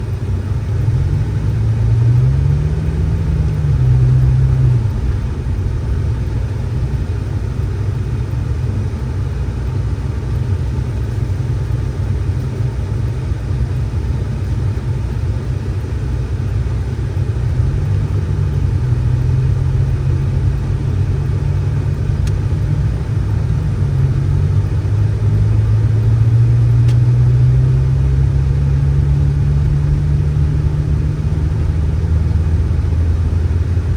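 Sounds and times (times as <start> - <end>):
vehicle engine revving: 0.0 - 33.9.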